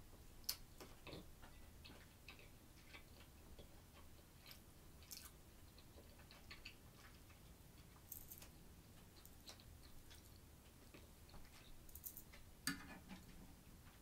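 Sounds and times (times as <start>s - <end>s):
mouth clicks and smacks chewing: 0.4s - 12.5s.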